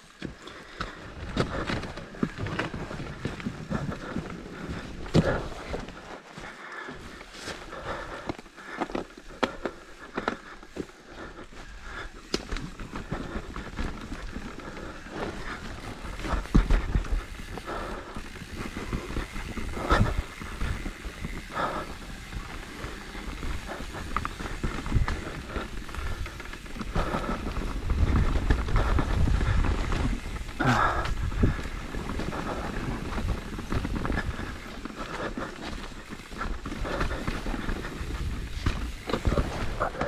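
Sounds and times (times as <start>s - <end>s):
bike rattling over bumps: 0.0s - 6.2s, 6.9s - 40.0s
bike tyres rolling over roots: 0.0s - 40.0s.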